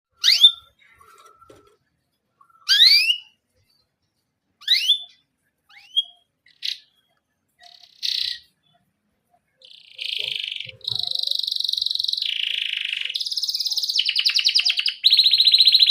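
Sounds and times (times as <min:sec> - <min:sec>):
canary chirping: 0:00.1 - 0:15.9.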